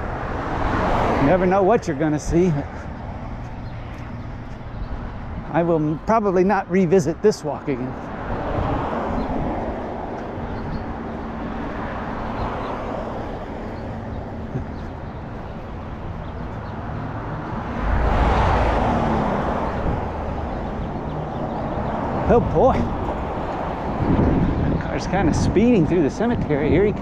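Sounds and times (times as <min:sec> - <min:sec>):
road traffic passing: 0:00.0 - 0:27.0
vehicle passing with deep rumble: 0:00.0 - 0:27.0.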